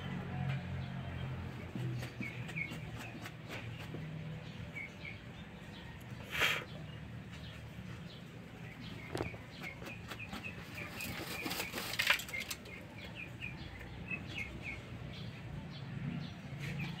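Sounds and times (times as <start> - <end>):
small bird chirping: 1.7 - 17.0.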